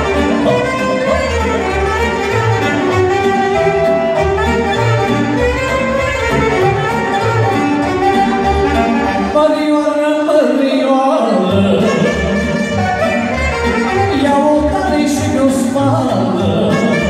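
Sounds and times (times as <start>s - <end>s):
pulsing bass: 0.0s - 9.4s, 11.5s - 17.0s
string melody: 0.0s - 17.0s.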